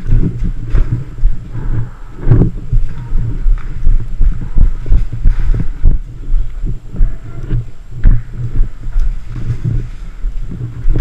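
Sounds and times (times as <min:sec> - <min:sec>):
footsteps thumping: 0:00.0 - 0:11.0
wind buffeting microphone: 0:00.0 - 0:11.0.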